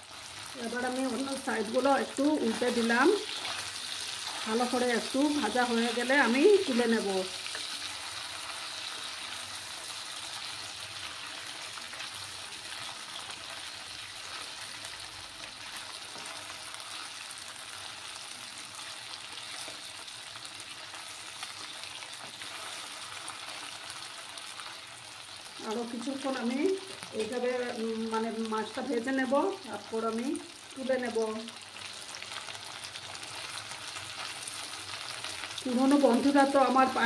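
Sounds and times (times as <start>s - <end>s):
fish frying in oil: 0.0s - 37.0s.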